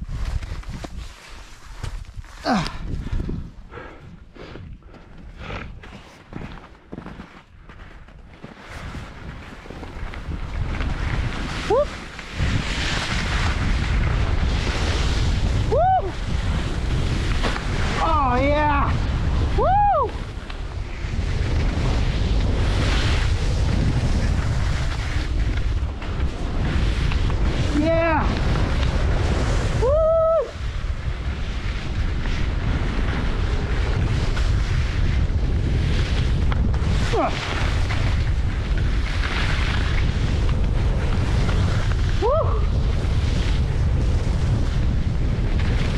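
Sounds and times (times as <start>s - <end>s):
skis sliding on snow: 0.0s - 45.9s
wind buffeting microphone: 0.0s - 45.9s.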